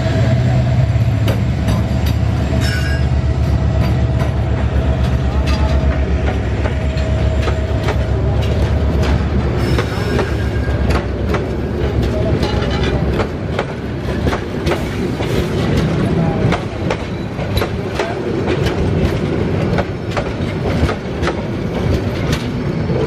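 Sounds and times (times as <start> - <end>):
locomotive engine drone: 0.0 - 23.0
train coaches rumbling past: 0.0 - 23.0
wheels clicking over rail joints: 3.8 - 23.0.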